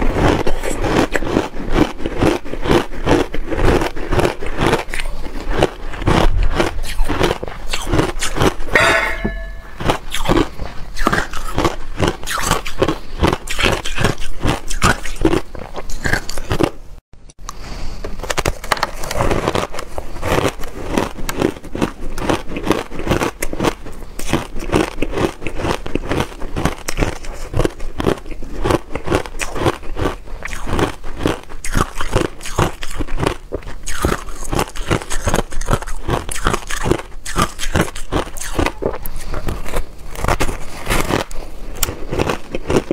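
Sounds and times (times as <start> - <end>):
crunching and chewing ice: 0.0 - 8.7, 9.7 - 16.8, 18.2 - 42.9.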